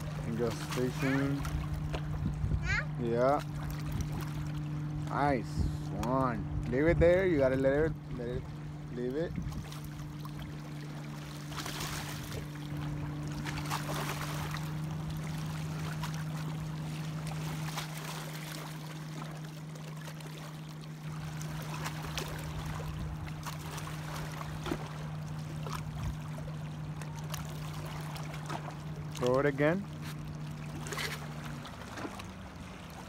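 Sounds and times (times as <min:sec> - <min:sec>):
steady low hum: 0:00.0 - 0:33.0
waves lapping against rocks: 0:00.0 - 0:33.0.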